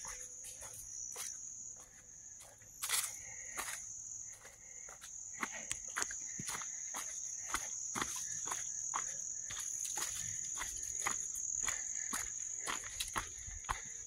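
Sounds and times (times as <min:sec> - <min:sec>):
footsteps crunching on dry leaves: 0:00.0 - 0:14.0
high-pitched insect chorus: 0:00.0 - 0:14.0.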